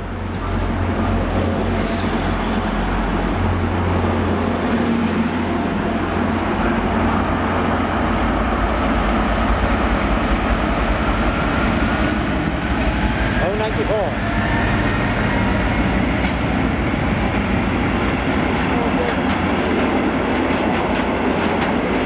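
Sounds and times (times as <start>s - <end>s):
diesel train engine drone: 0.0s - 22.0s.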